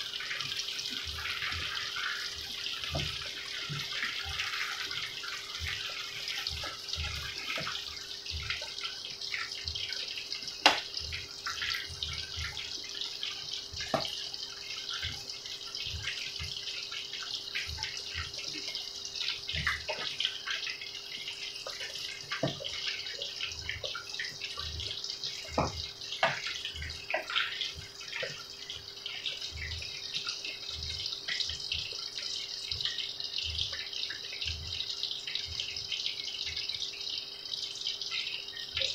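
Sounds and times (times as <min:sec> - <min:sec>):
food deep-frying in hot oil: 0:00.0 - 0:38.9.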